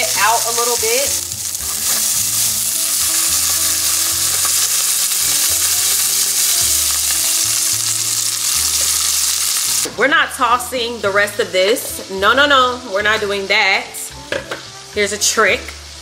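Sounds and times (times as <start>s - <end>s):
tomatoes sizzling in butter: 0.0s - 16.0s.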